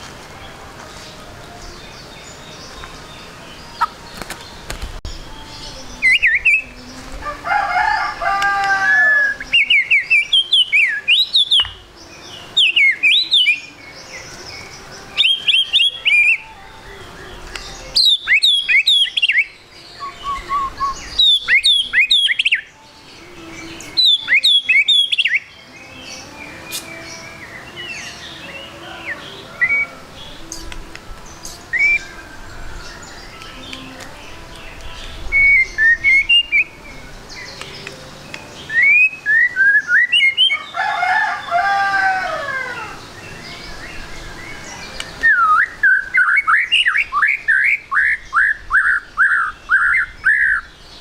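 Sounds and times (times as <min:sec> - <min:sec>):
bird singing whistled notes: 0:01.6 - 0:07.1, 0:08.3 - 0:40.8, 0:42.2 - 0:51.0.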